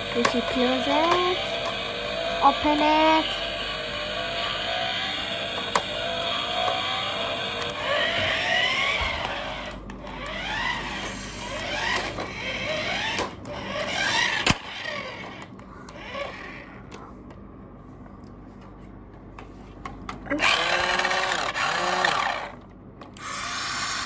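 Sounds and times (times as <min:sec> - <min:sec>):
toy car engine revving: 0:00.0 - 0:16.7, 0:20.3 - 0:22.6, 0:23.2 - 0:24.0.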